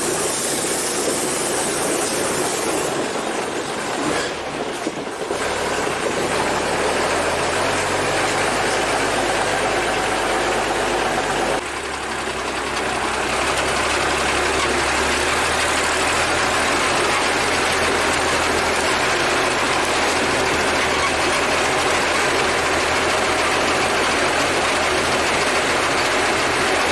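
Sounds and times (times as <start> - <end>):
truck engine under load: 0.0 - 26.9.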